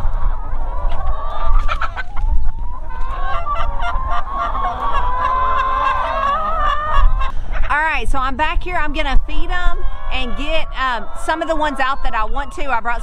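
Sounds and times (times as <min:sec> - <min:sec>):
hens squawking and clucking: 0:00.0 - 0:13.0.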